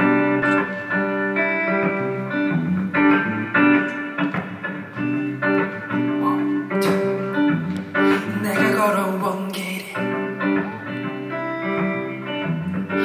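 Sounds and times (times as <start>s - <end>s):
guitar playing slow song: 0.0s - 13.0s.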